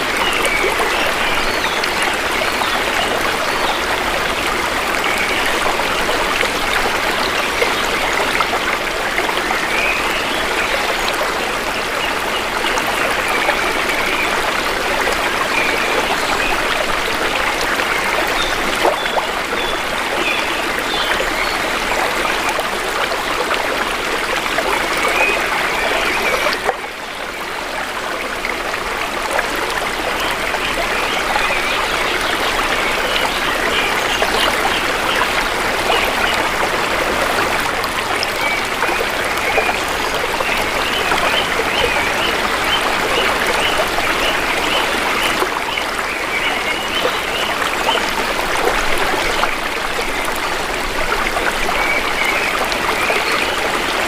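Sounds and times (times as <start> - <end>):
river water babbling over stones: 0.0 - 54.0.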